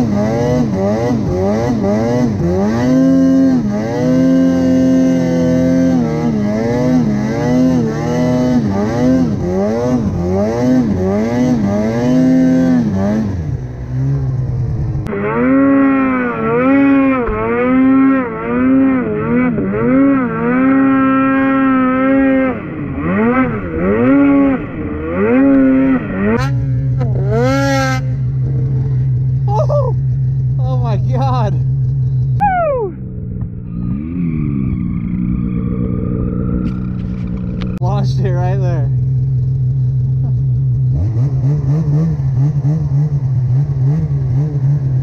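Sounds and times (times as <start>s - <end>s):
snowmobile engine revving: 0.0s - 45.0s.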